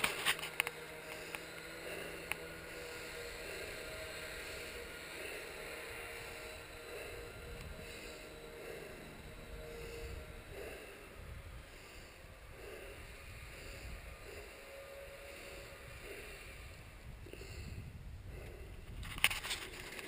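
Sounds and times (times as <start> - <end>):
snowmobile engine rumble: 0.0 - 20.0.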